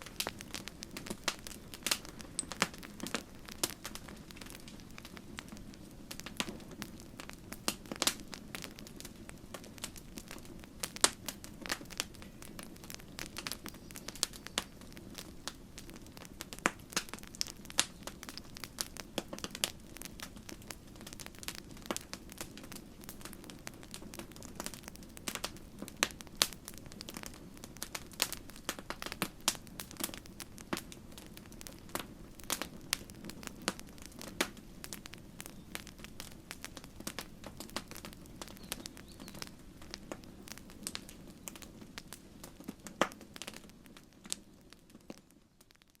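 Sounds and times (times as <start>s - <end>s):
campfire crackling and popping: 0.0s - 46.0s
low rumble of flames: 0.0s - 46.0s.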